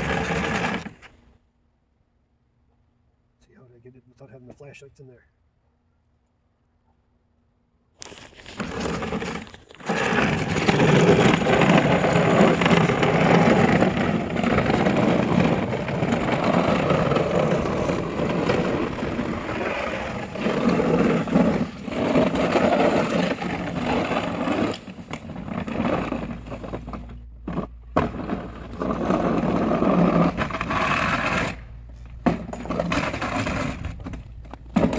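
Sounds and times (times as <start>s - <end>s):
tracks and blade scraping snow: 0.0s - 1.3s, 8.0s - 34.9s.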